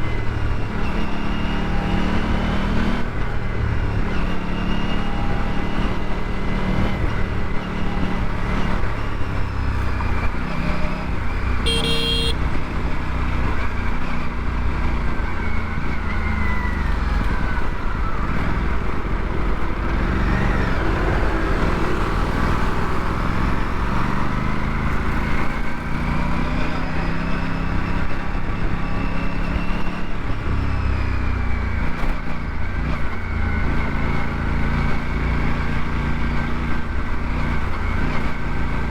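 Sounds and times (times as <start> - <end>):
road and wind noise: 0.0 - 38.9
motorcycle engine revving: 0.1 - 38.9.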